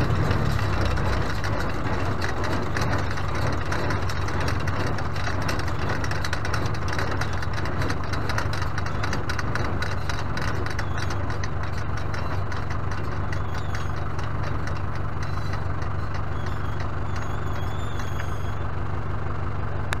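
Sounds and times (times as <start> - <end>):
fast fine clatter: 0.0 - 18.5
tractor engine idling: 0.0 - 20.0.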